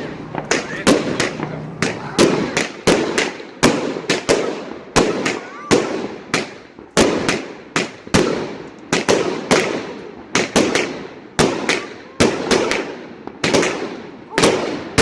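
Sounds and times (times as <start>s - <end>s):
fireworks bangs echoing: 0.0s - 15.0s.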